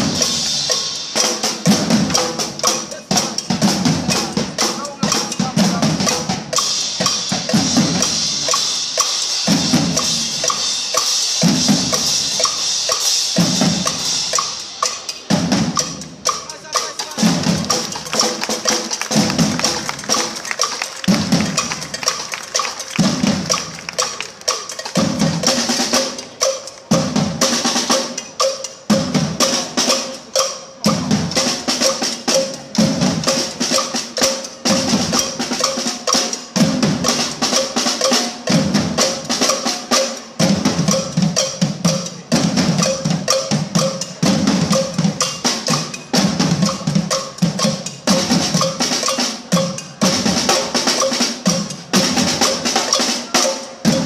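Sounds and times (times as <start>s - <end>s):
drum ensemble playing: 0.0s - 54.0s.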